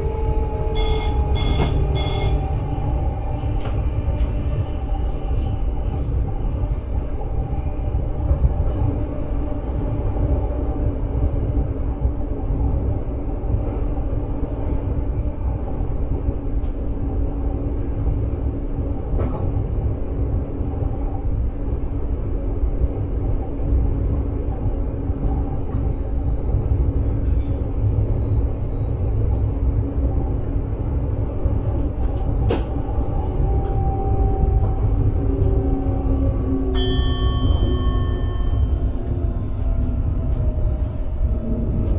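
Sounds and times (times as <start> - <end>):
constant hum: 0.0 - 41.9
train running rumble: 0.0 - 41.9.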